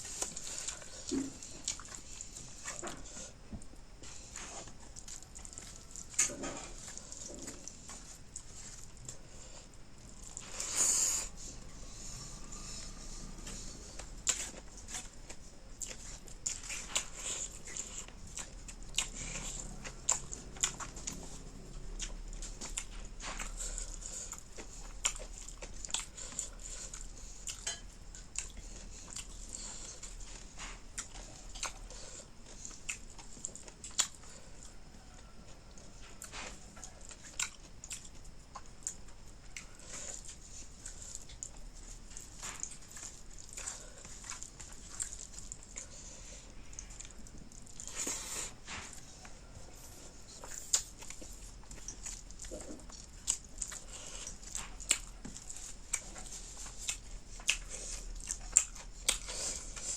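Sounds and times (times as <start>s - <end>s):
wet chewing: 0.0s - 59.9s.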